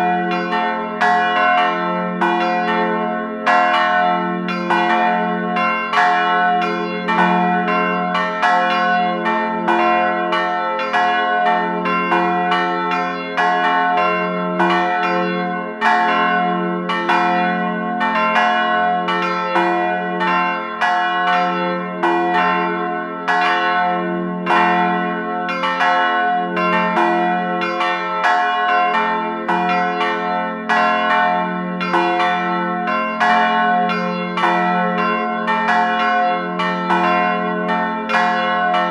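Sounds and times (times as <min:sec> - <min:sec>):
church bells ringing a peal: 0:00.0 - 0:38.9.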